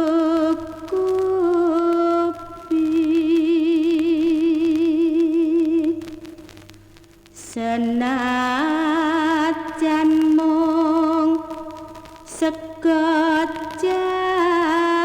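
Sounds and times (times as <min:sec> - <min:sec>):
person singing with vibrato: 0:00.0 - 0:06.5, 0:07.4 - 0:15.0.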